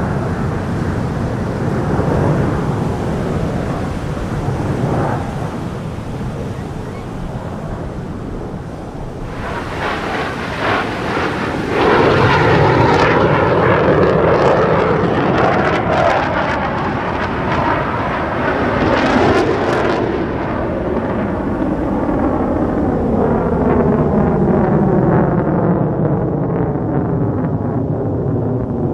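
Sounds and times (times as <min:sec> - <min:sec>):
aircraft engine roar: 0:00.0 - 0:28.9.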